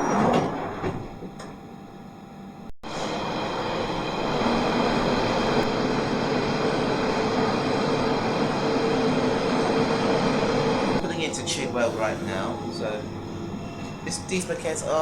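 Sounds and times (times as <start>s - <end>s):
faint motor hum: 1.0s - 15.0s
train rumbling inside carriage: 2.9s - 15.0s.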